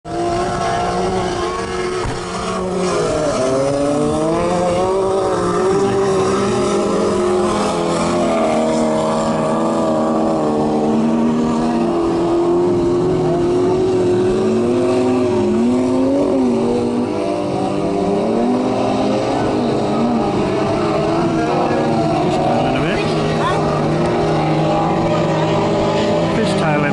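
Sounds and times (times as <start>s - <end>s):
race car engines revving: 0.0s - 26.9s.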